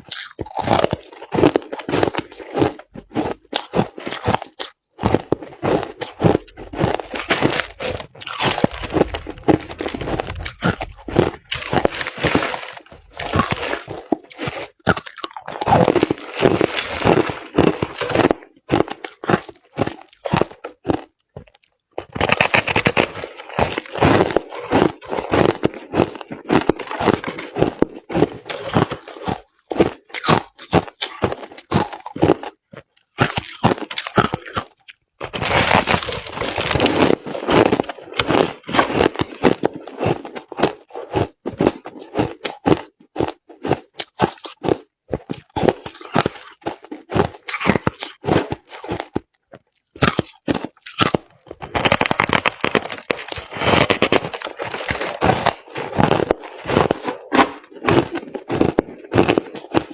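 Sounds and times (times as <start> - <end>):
chewing crushed ice: 0.0 - 59.9.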